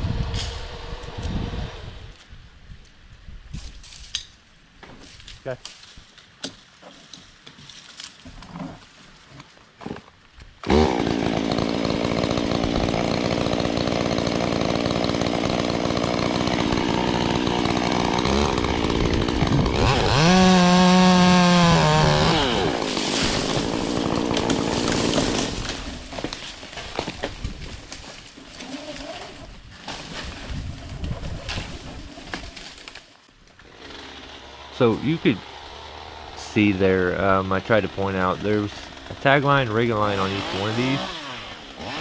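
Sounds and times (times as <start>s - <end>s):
chainsaw cutting: 0.0s - 2.2s, 9.8s - 42.0s.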